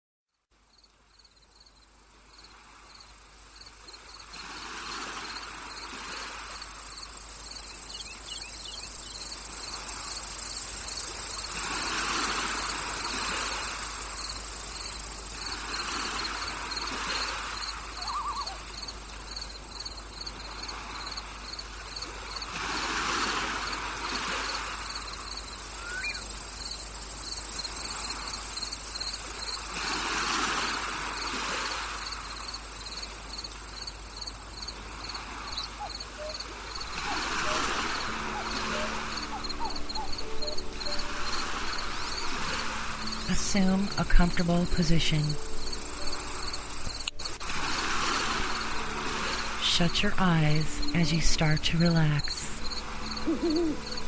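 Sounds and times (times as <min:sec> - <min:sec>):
insects chirping: 0:00.5 - 0:54.0.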